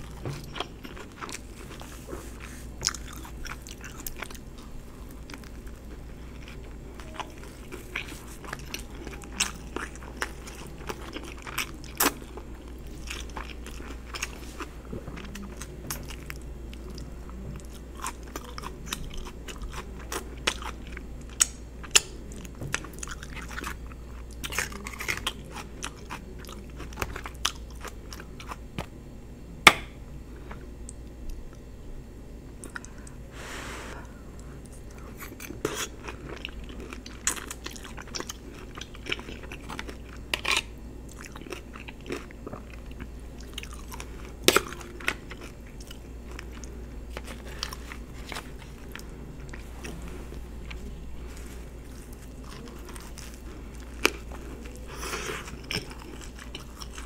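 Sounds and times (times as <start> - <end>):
chewing and biting food: 0.0 - 28.9, 34.6 - 57.0
steady low hum: 0.0 - 57.0.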